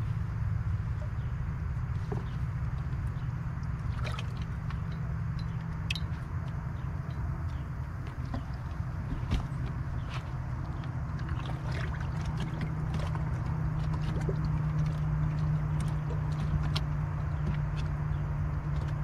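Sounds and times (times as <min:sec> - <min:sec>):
pump humming: 0:00.0 - 0:19.0.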